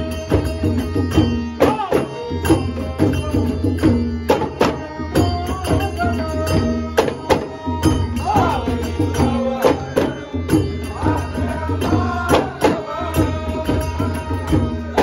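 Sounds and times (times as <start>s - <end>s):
clay-pot drums beating: 0.0s - 15.0s
harmonium: 0.0s - 15.0s
elderly man singing: 1.6s - 7.4s, 8.2s - 15.0s.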